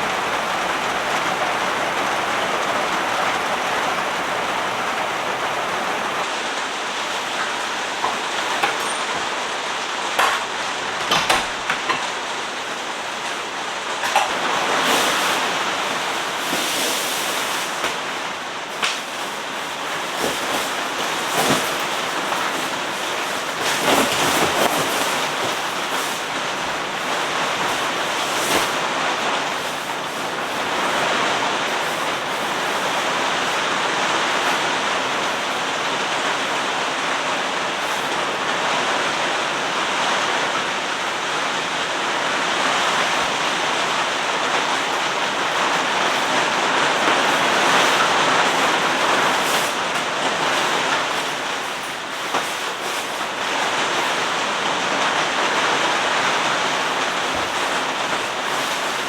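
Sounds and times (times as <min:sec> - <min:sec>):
heavy rain with wind: 0:00.0 - 0:59.0.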